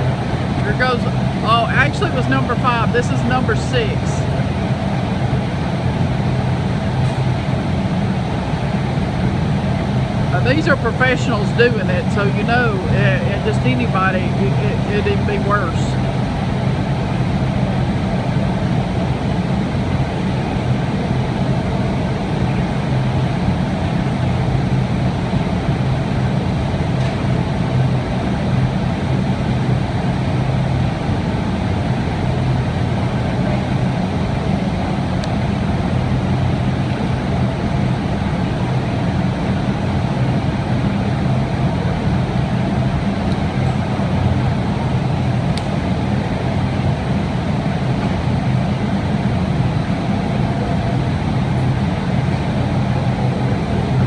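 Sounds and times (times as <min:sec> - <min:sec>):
constant low hum: 0:00.0 - 0:54.0
furnaces roaring: 0:00.0 - 0:54.0.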